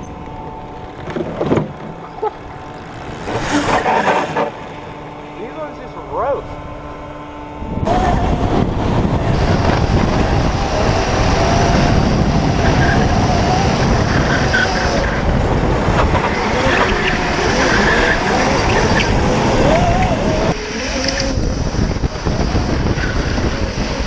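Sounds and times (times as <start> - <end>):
high electric motor whine: 0.0 - 24.0
road and wind rush: 0.0 - 24.0.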